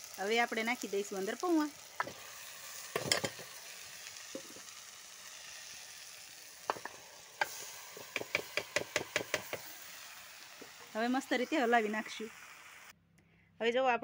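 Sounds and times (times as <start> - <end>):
vegetables sizzling in oil: 0.0 - 12.9.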